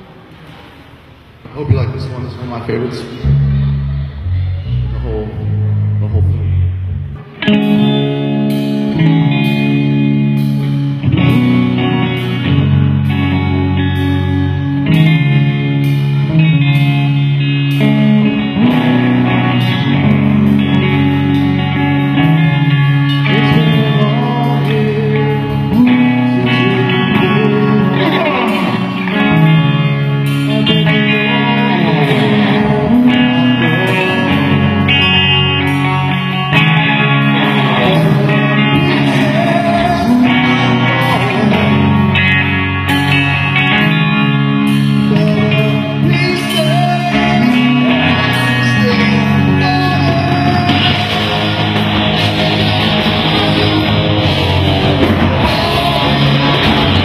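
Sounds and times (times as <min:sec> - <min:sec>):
guitar rock music: 0:01.8 - 0:57.0.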